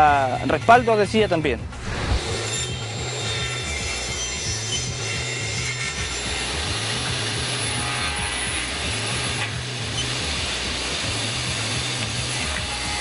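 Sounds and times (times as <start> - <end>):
woodworking machine cutting: 1.7 - 13.0.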